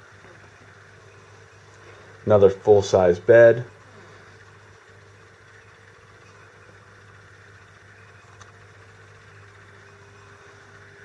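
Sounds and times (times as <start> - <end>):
faint motor hum: 0.0 - 11.0.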